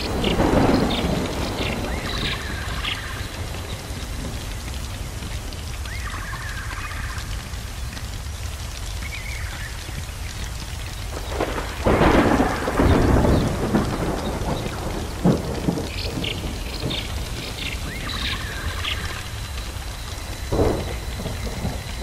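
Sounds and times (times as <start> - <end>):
crackling rain-like noise: 0.0 - 22.0
thunder rumbling: 0.0 - 22.0.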